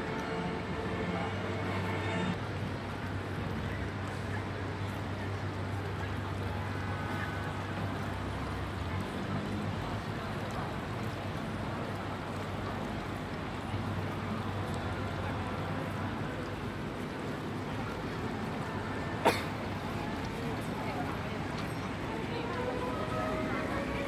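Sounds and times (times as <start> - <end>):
faint voices of people: 0.0 - 24.0.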